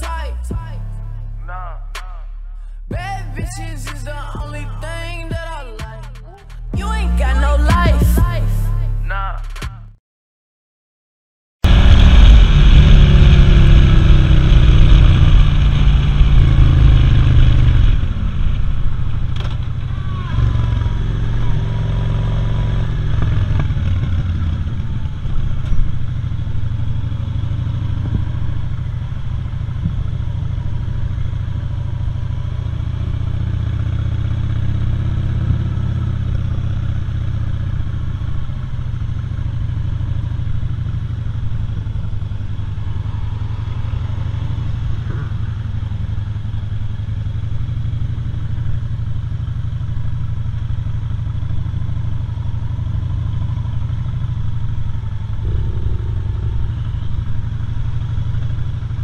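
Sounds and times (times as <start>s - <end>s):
motorcycle engine running: 0.0s - 9.8s, 11.6s - 59.0s.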